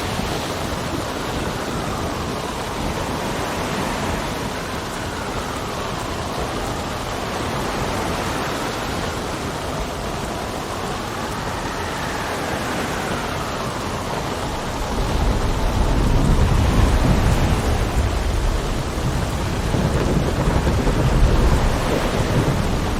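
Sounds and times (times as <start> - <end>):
heavy rain: 0.0 - 22.9
thunder rumbling: 0.0 - 22.9
wind howling: 0.0 - 22.9.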